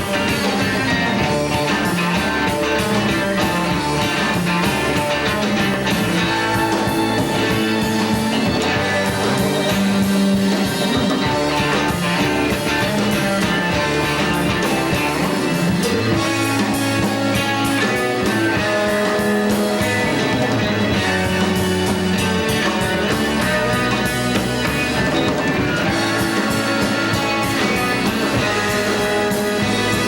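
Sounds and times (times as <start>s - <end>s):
bass: 0.0s - 30.0s
drum kit: 0.0s - 30.0s
electric guitar: 0.0s - 30.0s.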